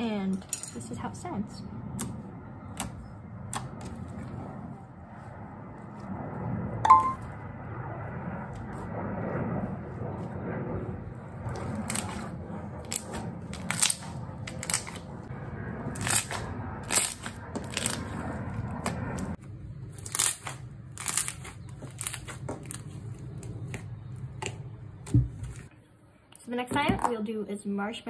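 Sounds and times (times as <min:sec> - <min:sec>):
low hum: 0:00.0 - 0:26.4.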